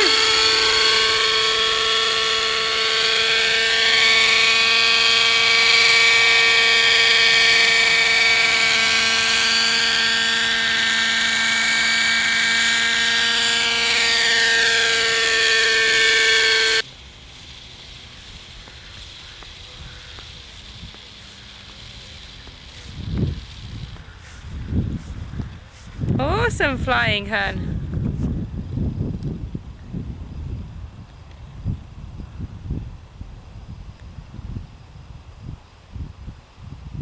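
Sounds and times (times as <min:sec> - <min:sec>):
model helicopter engine whine: 0:00.0 - 0:37.0.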